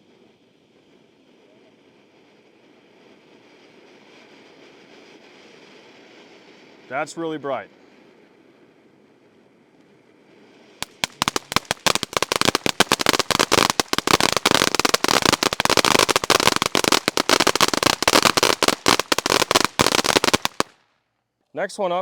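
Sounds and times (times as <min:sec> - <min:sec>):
firework fountain crackling: 0:00.0 - 0:21.0
faint hiss: 0:00.0 - 0:22.0.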